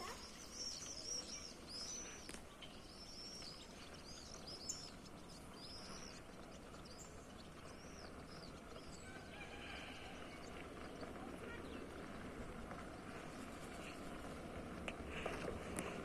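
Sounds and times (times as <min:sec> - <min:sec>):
faint outdoor hiss: 0:00.0 - 0:16.0
small birds chirping: 0:00.0 - 0:16.0.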